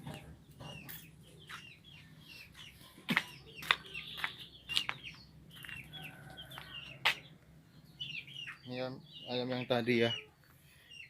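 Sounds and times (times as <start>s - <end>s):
chickens peeping: 0.0s - 11.0s.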